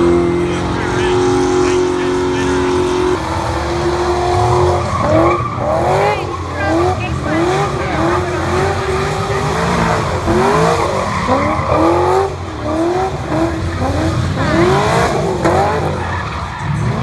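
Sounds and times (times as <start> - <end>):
engine droning at high revs: 0.0 - 17.0
tires screeching: 0.0 - 17.0.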